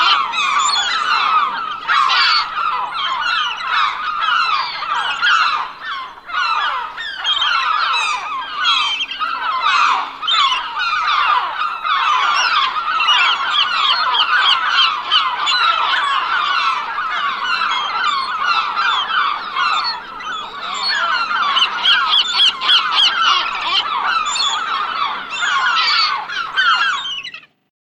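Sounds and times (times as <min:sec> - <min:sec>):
gulls calling: 0:00.0 - 0:27.6.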